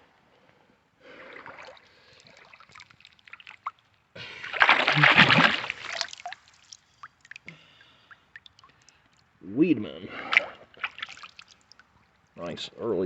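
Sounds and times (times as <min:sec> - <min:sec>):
water splashing: 0:01.0 - 0:09.4, 0:10.1 - 0:12.4
water sloshing and trickling: 0:01.0 - 0:12.5
small drips: 0:01.1 - 0:09.4, 0:10.1 - 0:12.4.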